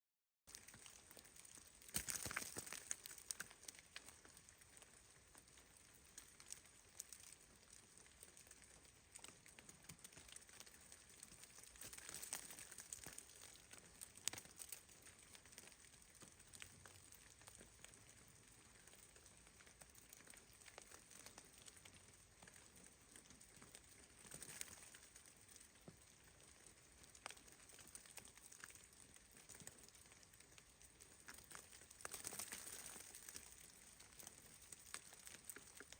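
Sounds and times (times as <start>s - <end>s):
faint ticks and rustles: 0.5s - 35.9s.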